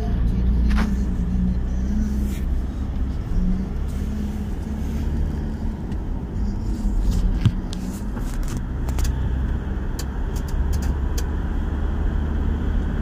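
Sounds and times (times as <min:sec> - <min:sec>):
engine and tyres rumbling: 0:00.0 - 0:13.0.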